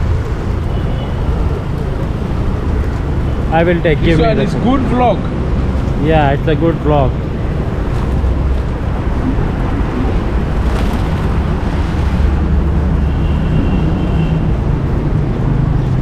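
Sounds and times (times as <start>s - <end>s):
low outdoor rumble: 0.0s - 13.3s.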